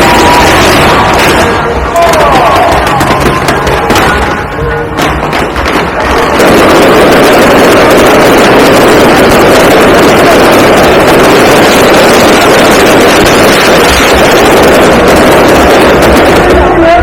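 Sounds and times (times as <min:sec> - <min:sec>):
fireworks barrage: 0:00.0 - 0:17.0.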